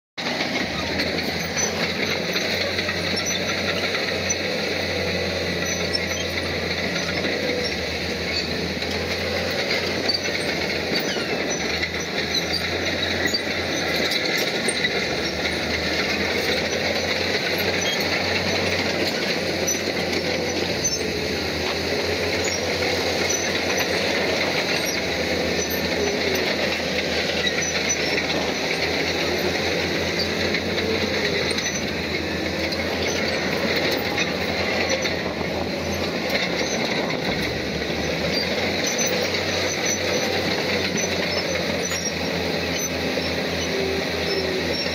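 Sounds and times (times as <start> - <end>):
bulldozer diesel engine running: 0.2 - 44.9
steel tracks squealing and clanking: 0.2 - 44.9.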